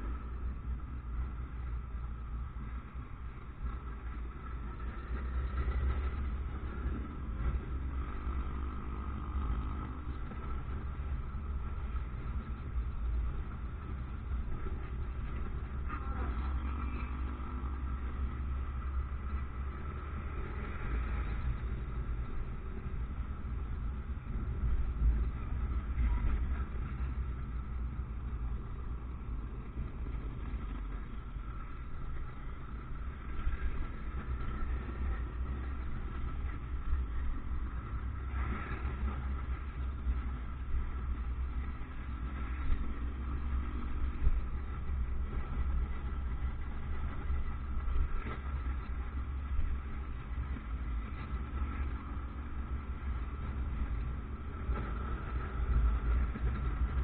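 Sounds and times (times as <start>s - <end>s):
motorcycle rumbling: 0.0s - 57.0s.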